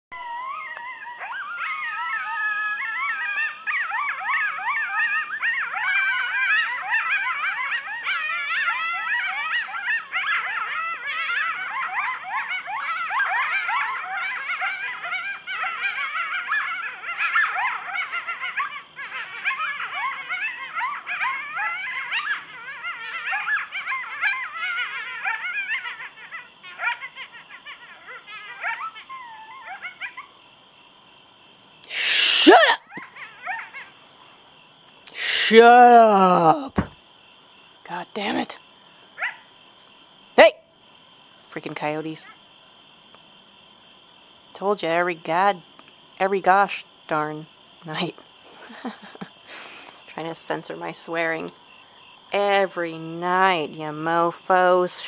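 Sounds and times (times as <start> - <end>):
coyotes howling and yipping: 0.1 - 55.0.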